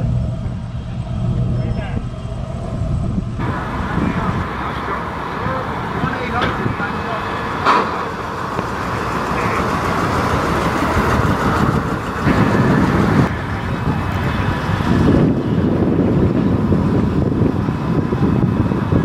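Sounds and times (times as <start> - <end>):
pickup truck engine rumbling: 0.0 - 19.0.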